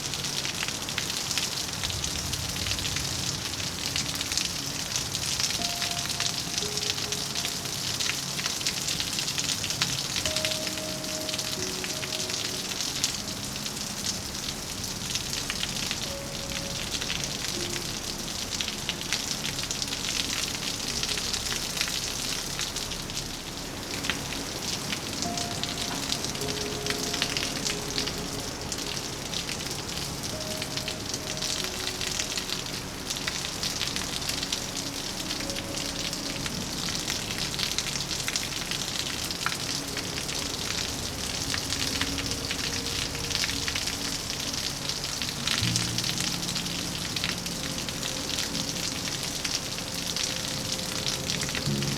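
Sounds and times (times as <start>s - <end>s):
soft background music: 0.0s - 51.9s
steady rain falling: 0.0s - 51.9s.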